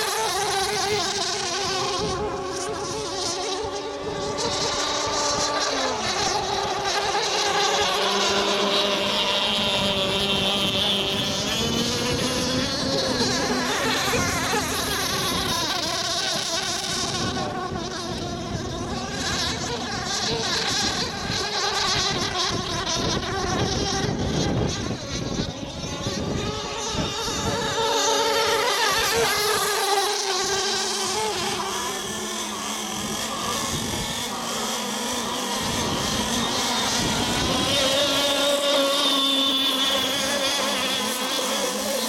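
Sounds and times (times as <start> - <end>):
racing boat motor: 0.0 - 42.0.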